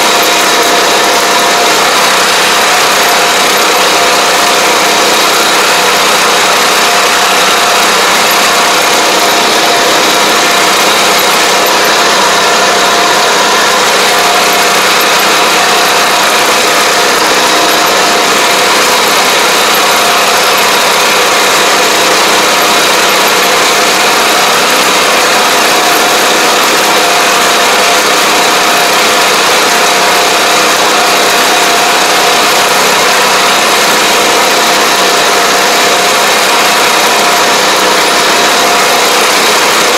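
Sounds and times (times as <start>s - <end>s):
constant whine: 0.0s - 39.9s
tractor engine running: 0.0s - 39.9s.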